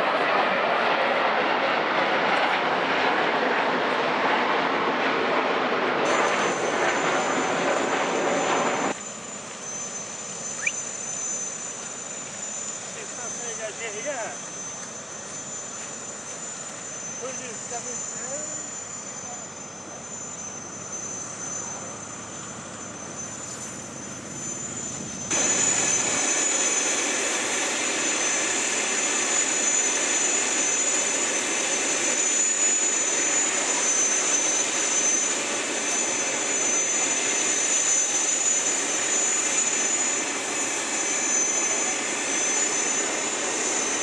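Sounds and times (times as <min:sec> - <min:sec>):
jet engines whining: 0:00.0 - 0:44.0.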